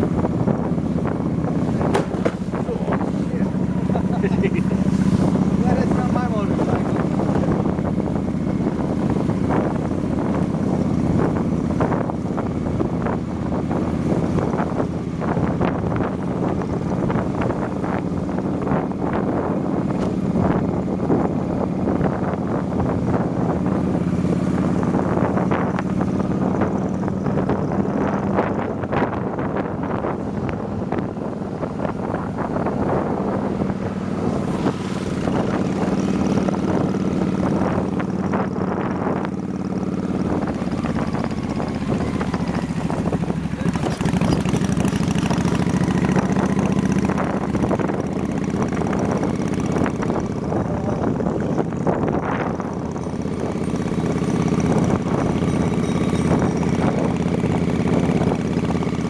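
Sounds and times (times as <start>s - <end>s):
motorbike engine running: 0.0s - 59.0s
wind buffeting microphone: 0.0s - 59.0s.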